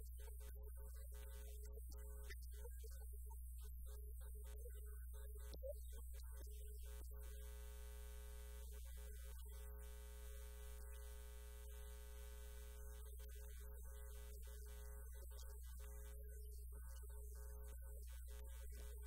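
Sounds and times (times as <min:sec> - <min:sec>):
faint mains hum: 0:00.0 - 0:19.0.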